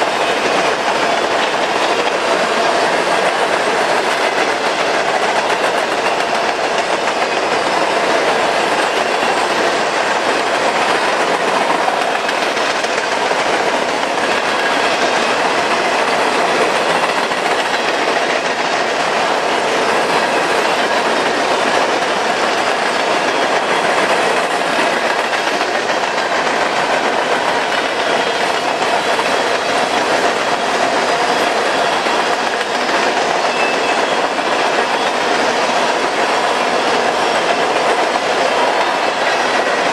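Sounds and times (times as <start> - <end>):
freight train cars rolling on rails: 0.0 - 39.9.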